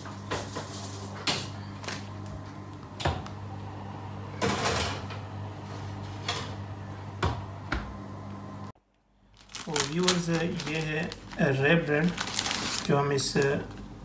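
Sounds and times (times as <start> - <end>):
steady low hum: 0.3 - 14.0.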